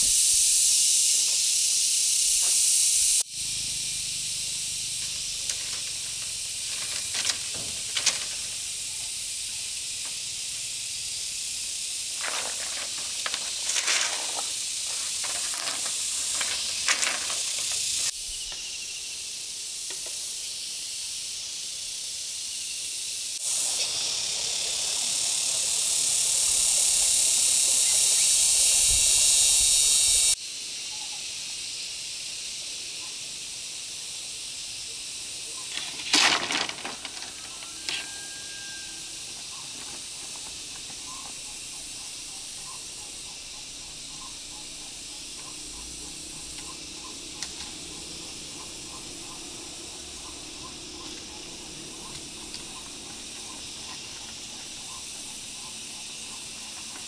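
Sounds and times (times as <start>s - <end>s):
steady high-pitched hiss: 0.0s - 57.0s.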